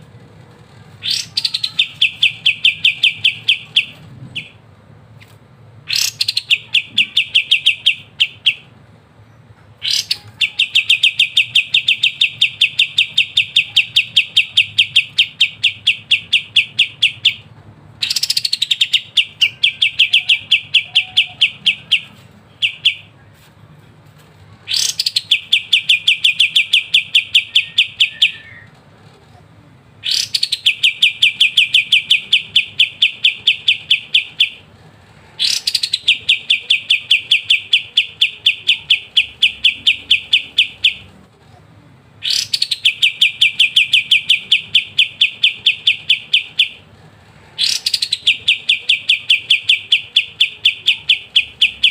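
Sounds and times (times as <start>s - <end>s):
songbird rapid rattling song: 1.0s - 4.6s, 5.2s - 8.7s, 9.8s - 23.1s, 24.7s - 28.5s, 30.0s - 34.6s, 35.4s - 41.1s, 42.2s - 46.8s, 47.6s - 51.9s.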